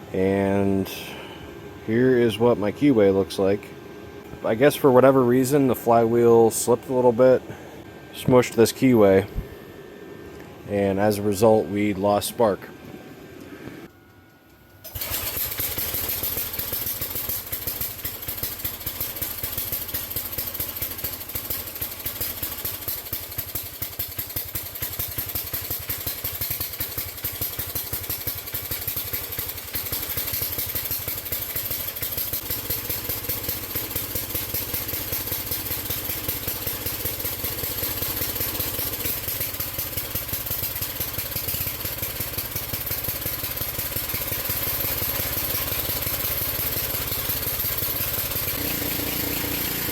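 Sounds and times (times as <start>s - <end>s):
garden tractor engine running: 0.0s - 9.7s, 14.8s - 49.9s.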